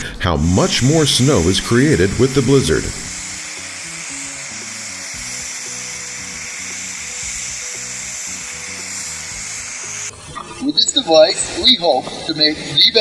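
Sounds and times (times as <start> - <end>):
background music: 0.0 - 13.0
snowmaking guns hissing: 0.6 - 13.0.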